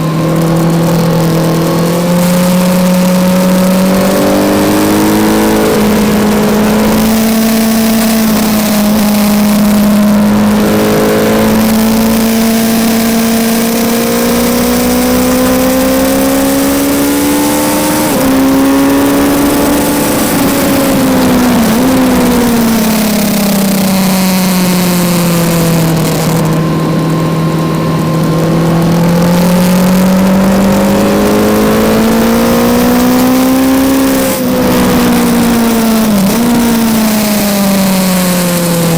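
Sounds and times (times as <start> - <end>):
motorcycle engine revving: 0.0 - 38.9
rush of wind: 0.0 - 38.9.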